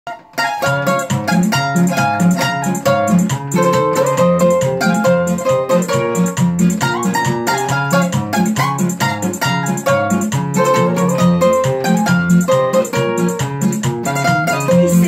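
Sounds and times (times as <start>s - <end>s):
classical guitar bass and chords: 0.1s - 15.0s
requinto picking a quick melody: 0.1s - 15.0s.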